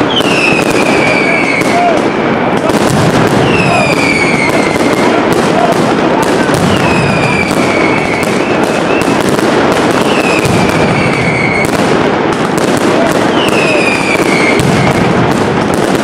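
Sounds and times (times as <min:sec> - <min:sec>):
firecrackers banging: 0:00.0 - 0:16.0
whistling fireworks: 0:00.0 - 0:16.0.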